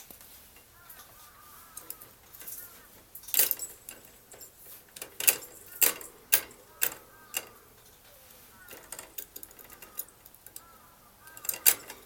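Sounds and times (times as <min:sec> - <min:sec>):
bird moving about: 0:00.0 - 0:12.0.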